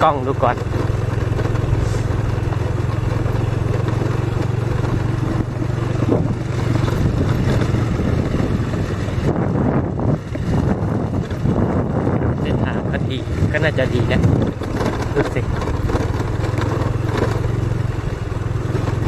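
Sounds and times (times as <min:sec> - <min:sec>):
motorcycle engine running: 0:00.0 - 0:19.0
rushing travel noise: 0:00.0 - 0:19.0.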